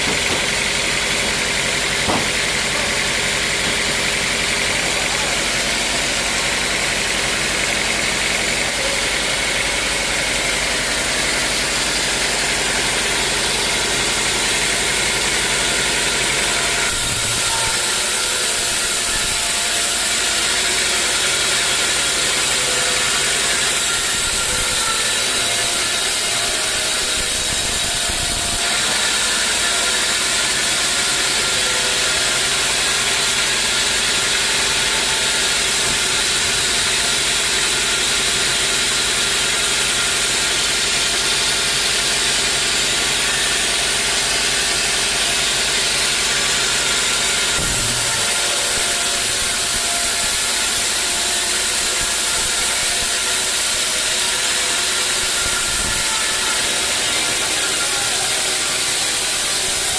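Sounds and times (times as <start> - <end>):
machine running steadily: 0.0 - 59.9.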